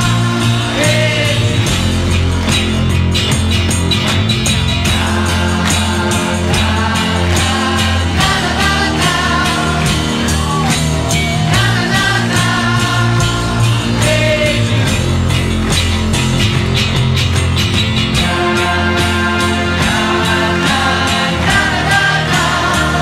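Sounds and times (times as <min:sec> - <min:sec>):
pop-rock song with vocals: 0:00.0 - 0:23.0.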